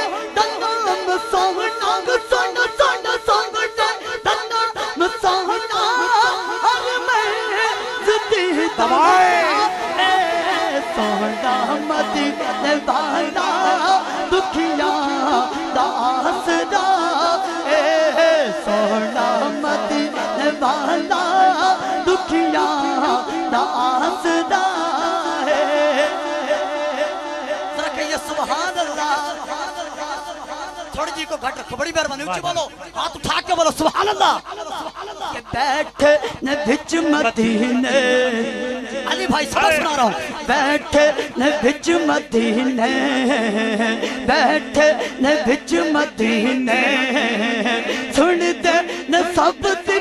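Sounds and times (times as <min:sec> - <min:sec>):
man singing into a microphone: 0:00.0 - 0:50.0.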